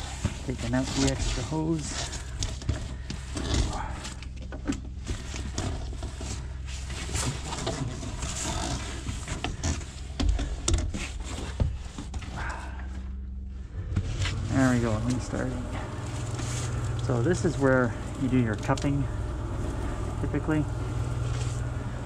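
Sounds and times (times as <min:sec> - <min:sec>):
plastic hose rustling and scraping: 0:00.0 - 0:12.4, 0:13.7 - 0:22.0
steady low hum: 0:00.0 - 0:22.0.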